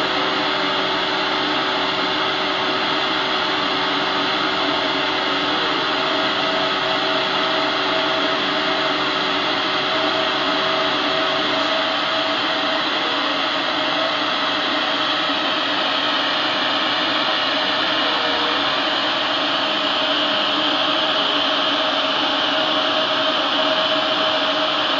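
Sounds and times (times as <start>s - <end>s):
laser cutter air rushing: 0.0s - 24.9s.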